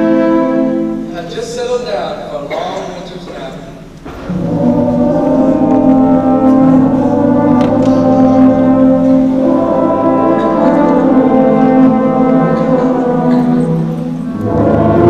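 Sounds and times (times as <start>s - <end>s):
concert band playing chords: 0.0s - 1.2s, 2.3s - 15.0s.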